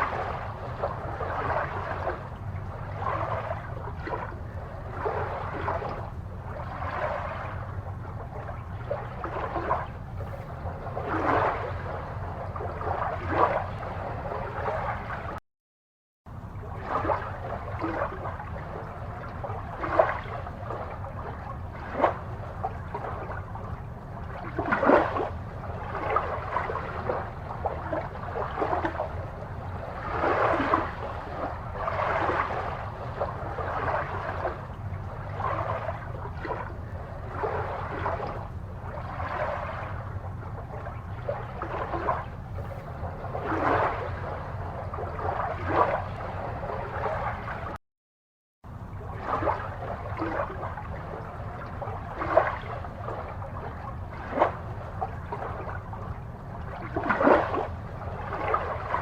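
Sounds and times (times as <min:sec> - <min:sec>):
aquarium water bubbling: 0:00.0 - 0:15.4, 0:16.3 - 0:47.8, 0:48.7 - 0:59.0
steady low hum: 0:00.0 - 0:15.4, 0:16.3 - 0:47.8, 0:48.7 - 0:59.0.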